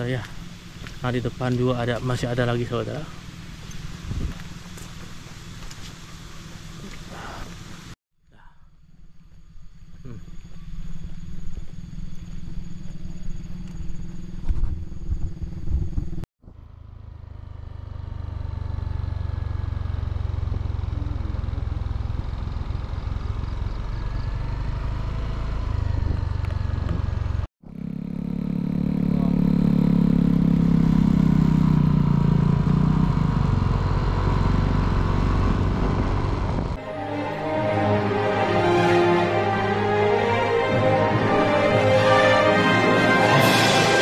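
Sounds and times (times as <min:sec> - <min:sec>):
motorcycle engine droning: 0:00.0 - 0:44.0.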